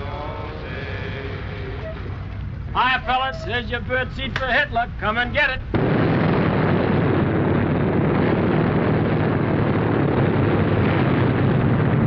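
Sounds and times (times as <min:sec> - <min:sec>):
piston aircraft engines droning: 0:00.0 - 0:12.0.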